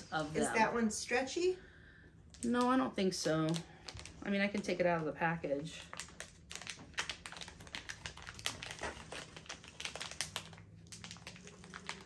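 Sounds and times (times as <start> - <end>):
package crinkling and rustling: 2.3 - 12.0.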